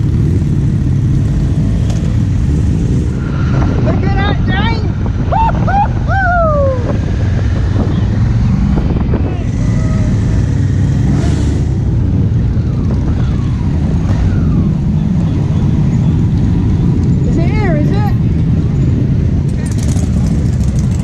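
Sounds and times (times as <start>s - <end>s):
vehicle engine rumbling: 0.0s - 21.0s
wind on microphone: 1.5s - 21.0s.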